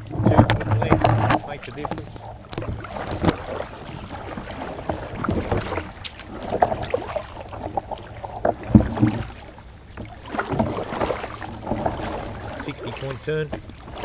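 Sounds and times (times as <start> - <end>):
paddle splashing water: 0.0 - 14.0.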